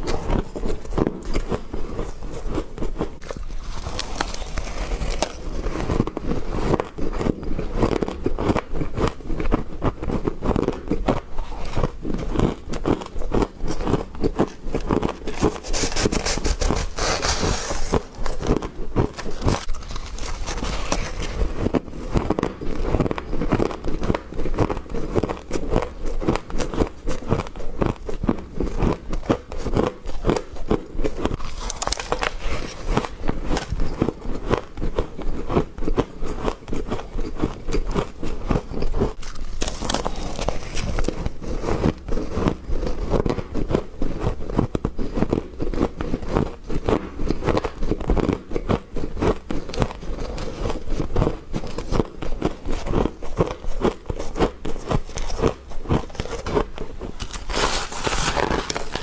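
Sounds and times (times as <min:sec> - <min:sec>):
person crunching frost: 0:00.0 - 0:59.0.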